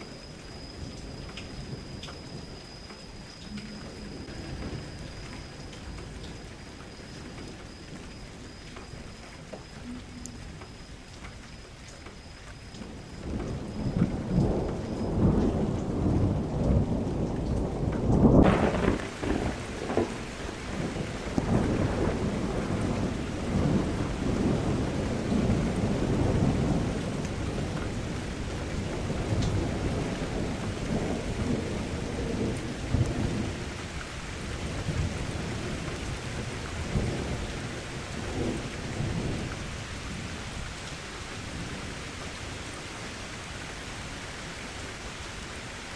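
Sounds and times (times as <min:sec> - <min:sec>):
thunder rumbling and cracking: 0:00.0 - 0:10.7, 0:12.8 - 0:42.7
heavy rain hissing: 0:00.0 - 0:45.9.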